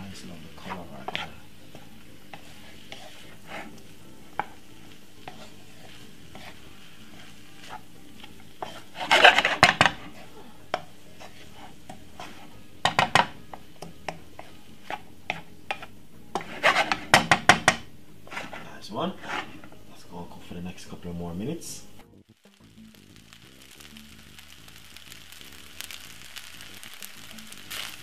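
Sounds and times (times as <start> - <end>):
spatula scraping a pan: 0.0 - 17.4, 18.2 - 19.8, 23.6 - 28.0
faint sizzle: 0.0 - 28.0.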